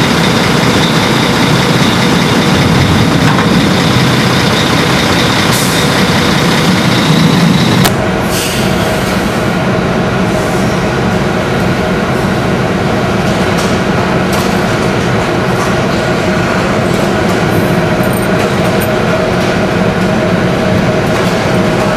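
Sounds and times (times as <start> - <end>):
truck engine idling: 0.0 - 21.9
vehicle rumble: 0.0 - 21.9.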